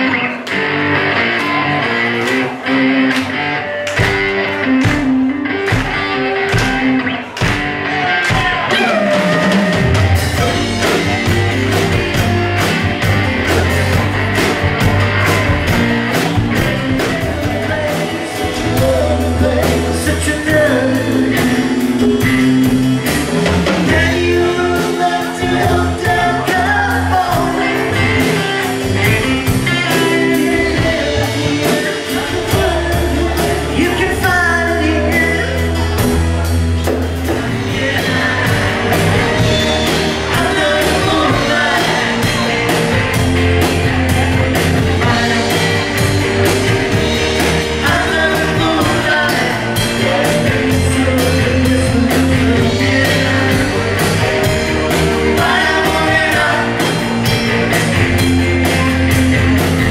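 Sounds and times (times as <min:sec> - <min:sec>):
acoustic and electric guitars: 0:00.0 - 0:59.9
bass guitar: 0:00.0 - 0:59.9
drums: 0:00.0 - 0:59.9
man singing: 0:08.3 - 0:12.8, 0:13.9 - 0:59.9.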